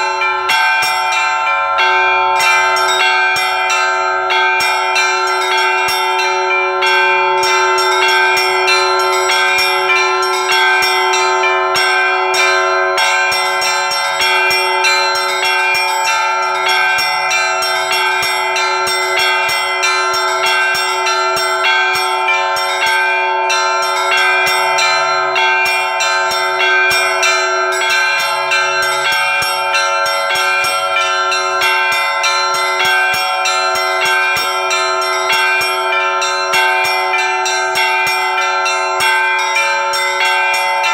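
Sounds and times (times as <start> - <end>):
large bells ringing: 0.0 - 40.9
small bells struck rapidly: 0.0 - 40.9.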